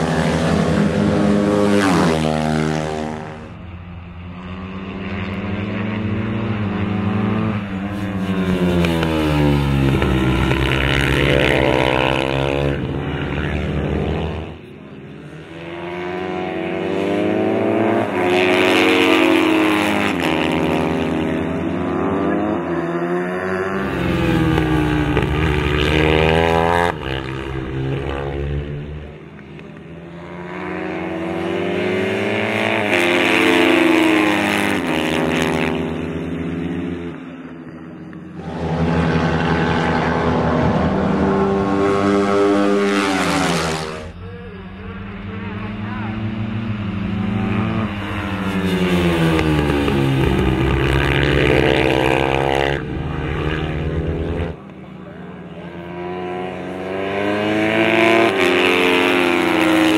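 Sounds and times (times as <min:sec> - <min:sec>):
racing motorbike engines: 0:00.0 - 0:59.9.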